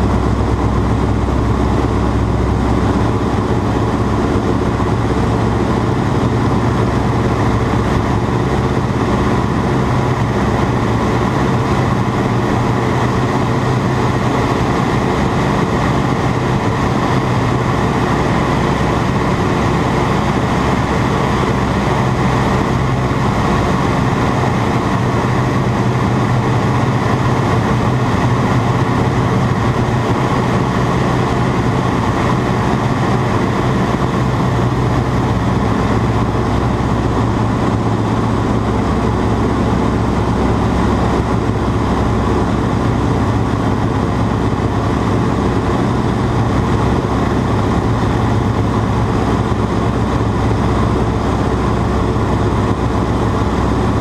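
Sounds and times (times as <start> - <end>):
biplane engine droning: 0.0 - 54.0.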